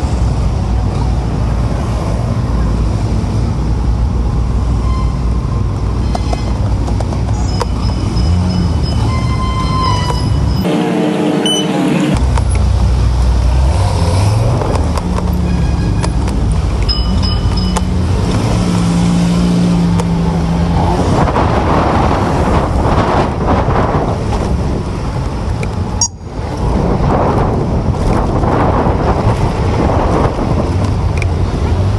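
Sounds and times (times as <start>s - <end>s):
motor vehicles passing: 0.0s - 31.9s.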